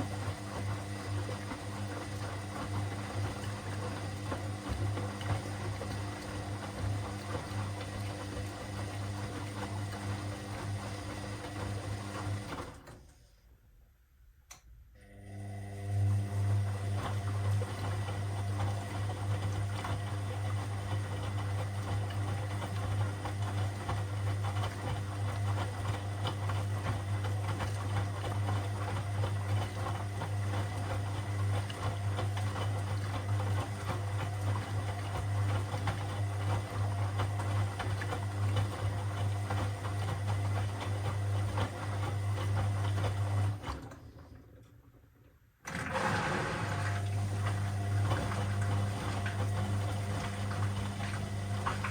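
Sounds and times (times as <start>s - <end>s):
washing machine running: 0.0s - 13.1s, 15.0s - 51.9s.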